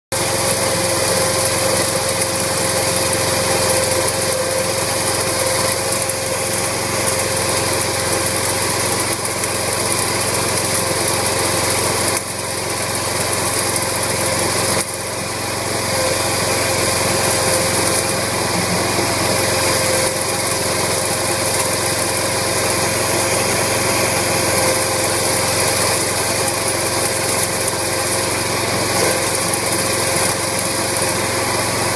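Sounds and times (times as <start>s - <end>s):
small gasoline engine running: 0.1s - 31.9s.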